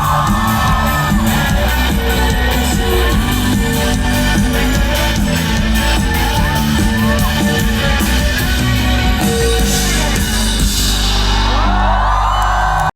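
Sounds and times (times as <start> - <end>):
live band music through speakers: 0.0 - 12.9.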